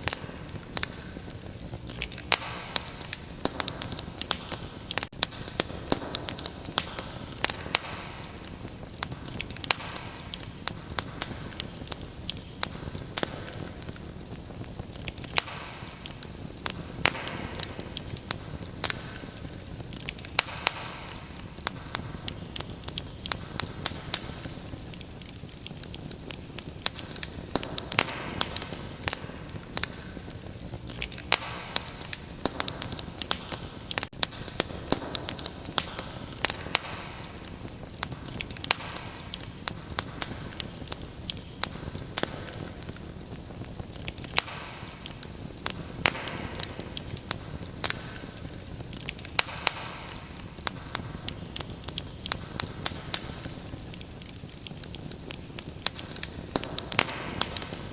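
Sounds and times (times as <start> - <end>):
low hiss of burning: 0.0 - 57.9
wood fire crackling: 0.0 - 57.9.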